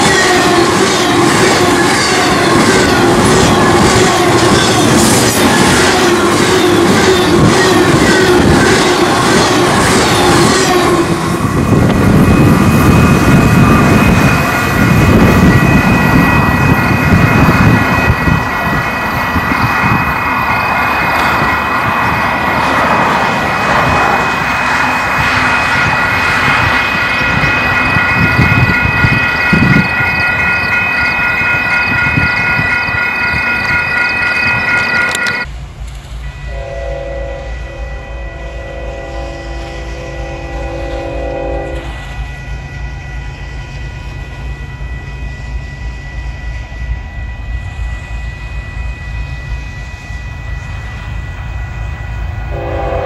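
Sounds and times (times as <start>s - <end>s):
crossing bell ringing: 0.0s - 35.5s, 36.2s - 53.0s
freight train rumbling: 0.0s - 53.0s.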